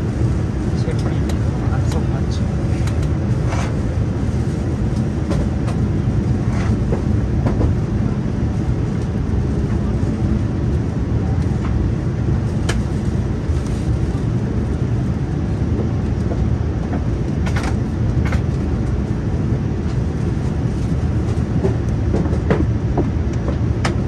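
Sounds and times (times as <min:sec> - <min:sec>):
vehicle rumble from inside: 0:00.0 - 0:24.0.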